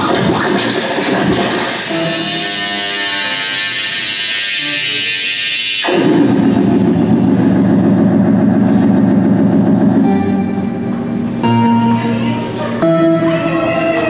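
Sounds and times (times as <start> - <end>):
hissy high electronic texture: 0.0 - 12.8
low buzzing drone: 0.0 - 14.0.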